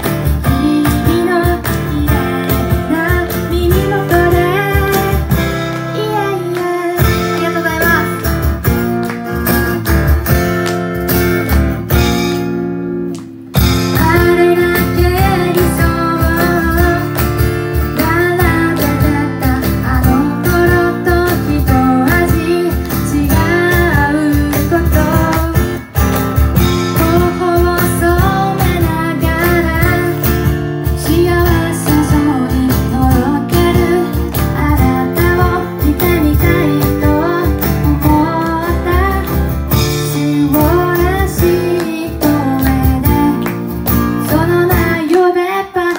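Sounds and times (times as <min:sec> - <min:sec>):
woman singing: 0:00.0 - 0:08.7, 0:13.8 - 0:26.0, 0:26.6 - 0:45.9
strummed acoustic guitar: 0:00.0 - 0:45.9.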